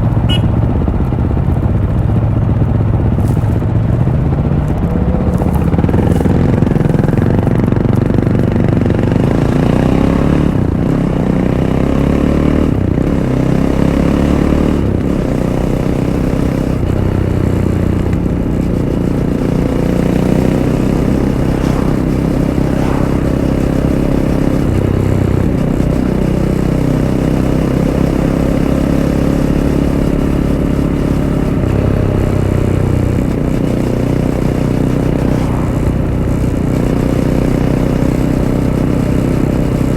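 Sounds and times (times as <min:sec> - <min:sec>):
motorcycle engine revving off-road: 0:00.0 - 0:39.9.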